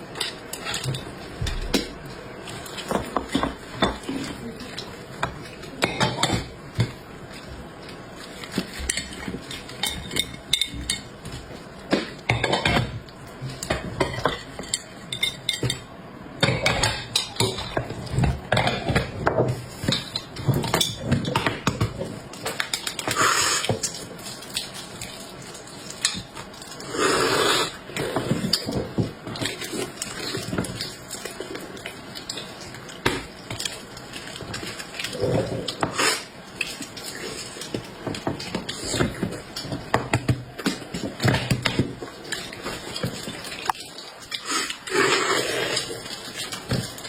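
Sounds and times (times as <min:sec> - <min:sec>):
utensils and dishes clinking: 0:00.0 - 0:47.0.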